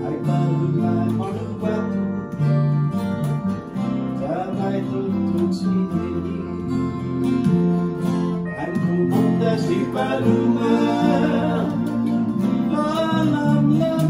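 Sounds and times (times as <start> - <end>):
electric bass: 0.0 - 14.0
electronic keyboard: 0.0 - 14.0
strummed acoustic guitar: 0.0 - 14.0.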